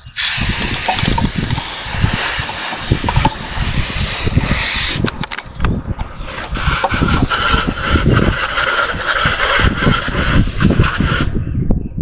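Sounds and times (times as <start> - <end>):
hose water spraying: 0.0 - 5.0, 6.2 - 11.3.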